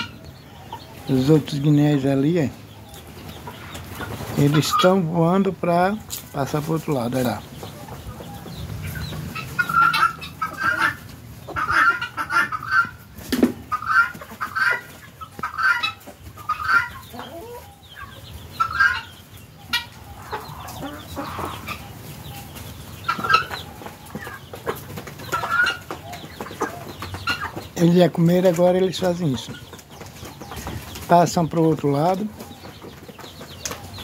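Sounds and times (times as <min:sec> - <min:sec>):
guineafowl calling: 0:00.0 - 0:06.5, 0:07.2 - 0:31.0.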